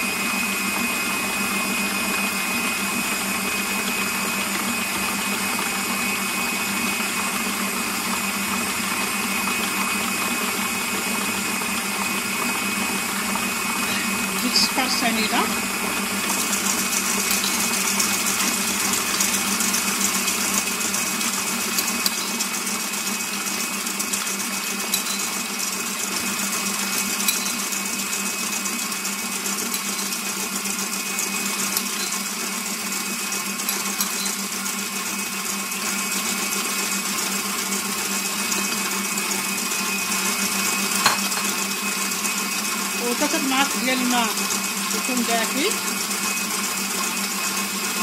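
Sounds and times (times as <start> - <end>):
electric mixer running: 0.0 - 48.0.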